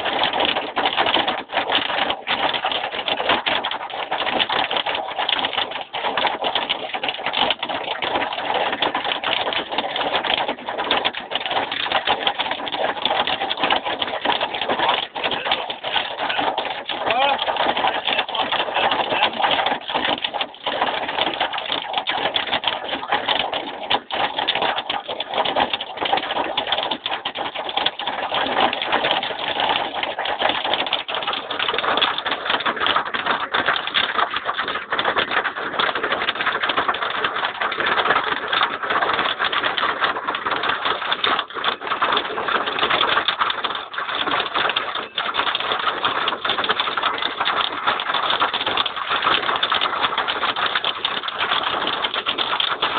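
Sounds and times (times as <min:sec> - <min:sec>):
hail clattering: 0:00.0 - 0:52.9.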